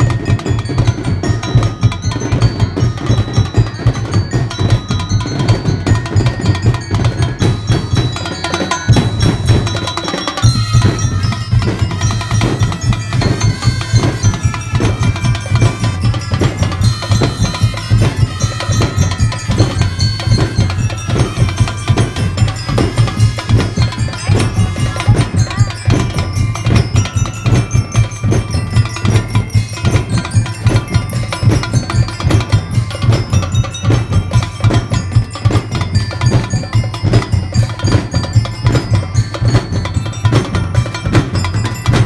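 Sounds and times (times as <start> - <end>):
drums keeping steady beat: 0.0 - 42.0
mallet percussion melody: 0.0 - 42.0.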